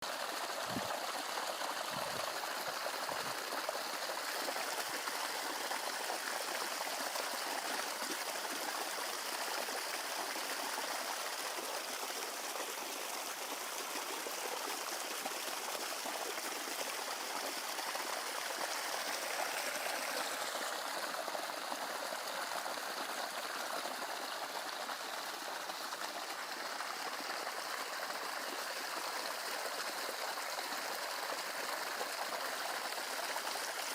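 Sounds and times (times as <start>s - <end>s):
stream water running: 0.0s - 33.9s.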